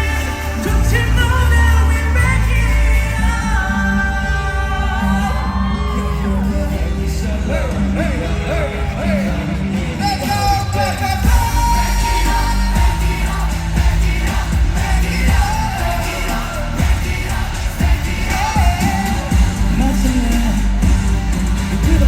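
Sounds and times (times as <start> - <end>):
heavy bass beat: 0.0 - 22.0
pop music with singing: 0.0 - 22.0.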